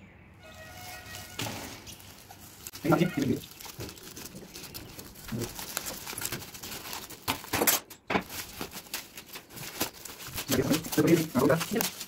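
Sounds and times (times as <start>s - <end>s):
bubble wrap crinkling: 0.4s - 12.0s.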